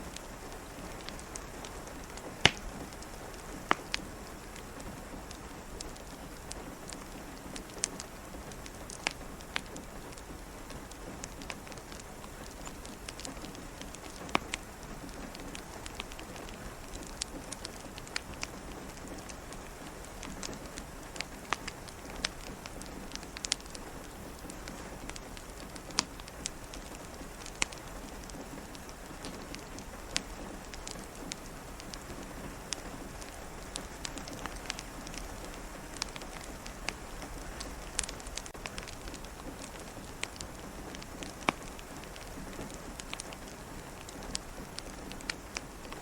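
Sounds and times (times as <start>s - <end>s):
fireplace crackling and popping: 0.0s - 46.0s
rain hiss: 0.0s - 46.0s.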